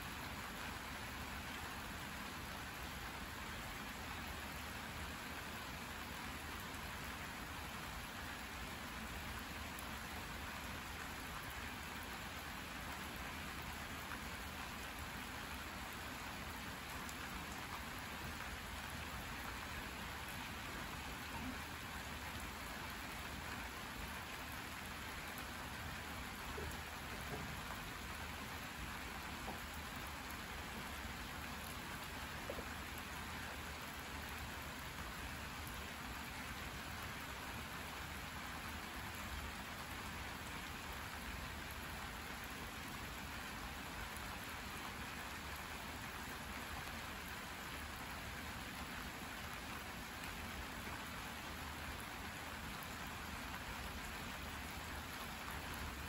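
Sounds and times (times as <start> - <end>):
rain pattering on plants and ground: 0.0 - 56.0.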